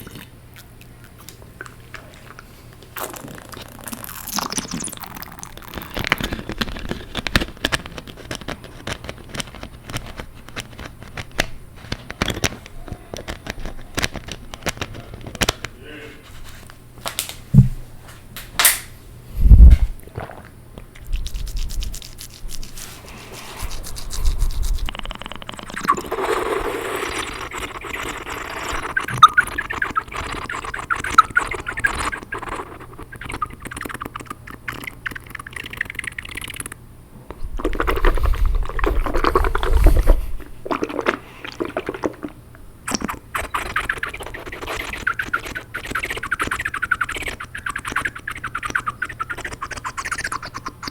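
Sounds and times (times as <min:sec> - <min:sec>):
wet mouth sounds: 0:00.0 - 0:16.4, 0:19.4 - 0:50.9.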